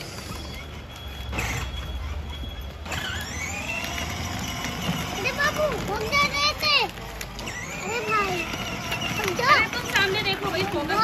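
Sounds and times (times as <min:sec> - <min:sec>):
electric motor whining: 0:00.0 - 0:06.4, 0:07.4 - 0:11.0.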